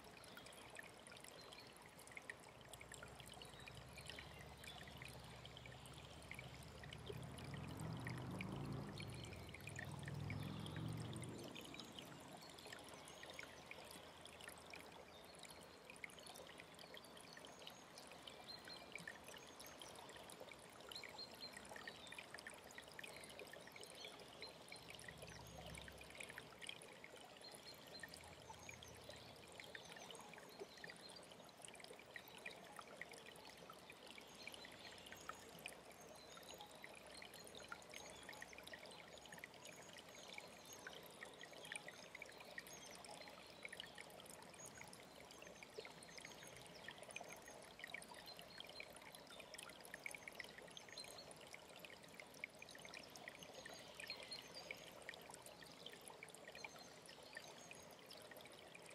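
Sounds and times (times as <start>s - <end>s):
stream trickling and splashing: 0.0s - 58.9s.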